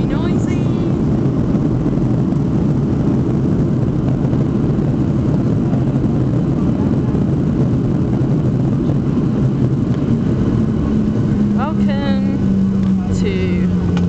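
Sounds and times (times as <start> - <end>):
jet engines and runway roll: 0.0 - 14.0.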